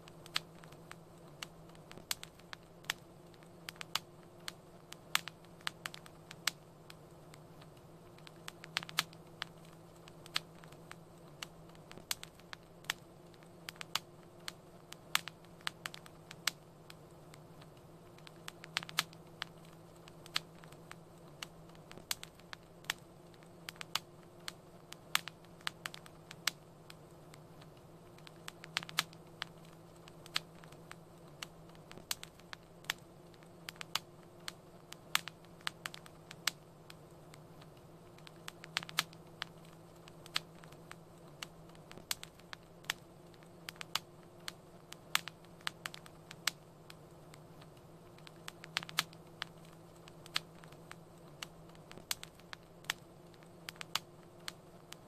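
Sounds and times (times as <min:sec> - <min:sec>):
low steady hiss: 0:00.0 - 0:55.0
wood fire crackling: 0:00.0 - 0:55.0.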